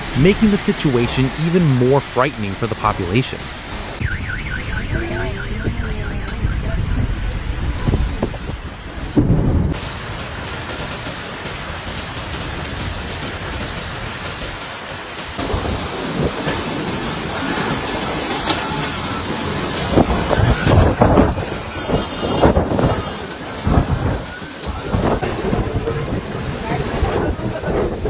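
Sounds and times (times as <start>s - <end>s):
heavy rain pouring: 0.0s - 28.0s
wind gusts: 0.0s - 28.0s.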